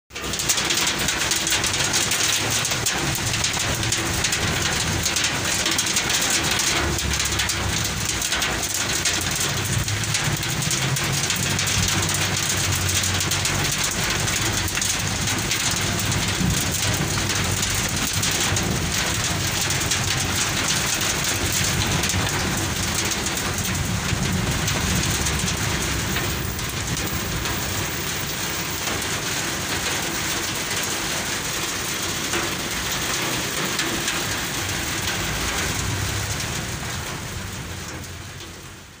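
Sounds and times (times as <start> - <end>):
heavy rain on street: 0.1 - 39.0.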